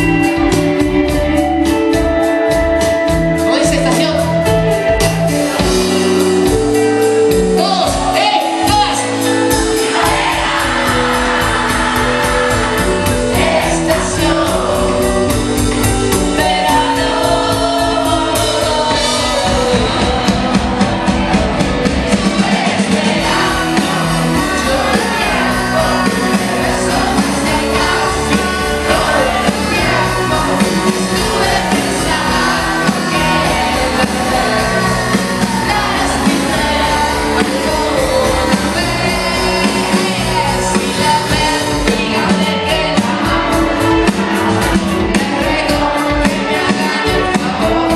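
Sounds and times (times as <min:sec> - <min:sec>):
live band playing: 0:00.0 - 0:47.9
person singing: 0:00.0 - 0:47.9.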